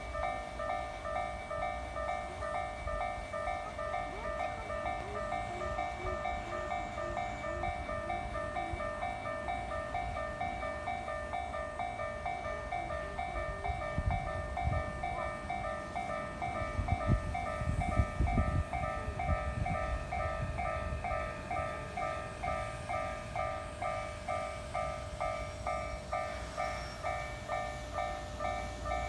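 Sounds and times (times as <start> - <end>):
level crossing bell ringing: 0.0 - 29.0
train rumbling and clattering: 0.0 - 29.0.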